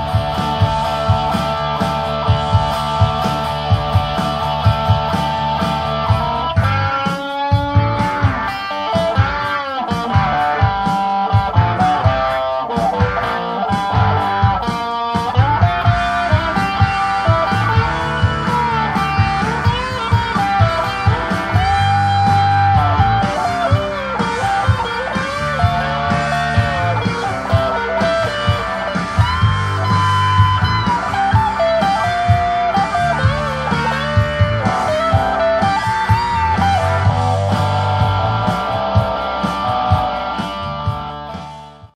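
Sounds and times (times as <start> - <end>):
blues electric guitar lead: 0.0 - 41.9.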